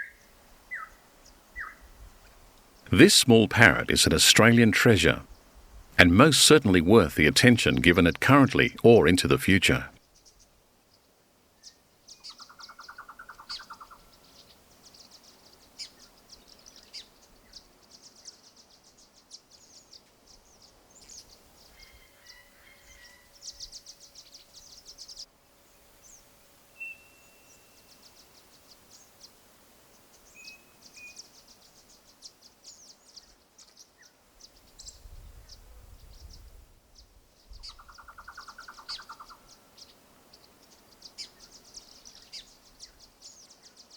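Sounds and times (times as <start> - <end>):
small birds chirping: 0.0 - 2.9, 10.0 - 43.9.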